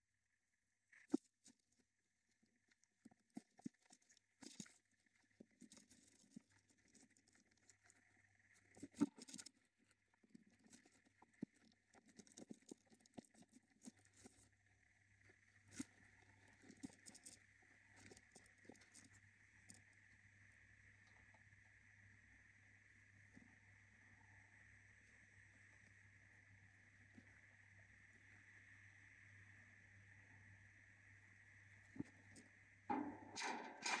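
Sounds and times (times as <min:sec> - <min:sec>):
faint steady hiss: 0:00.2 - 0:34.0.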